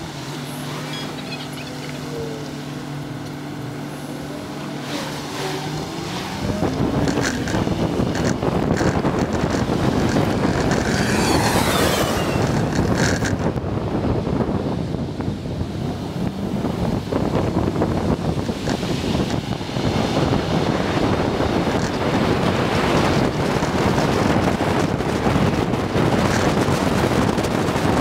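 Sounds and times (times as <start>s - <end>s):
vehicle engine hum: 0.0s - 28.0s
wind and road noise: 0.0s - 28.0s.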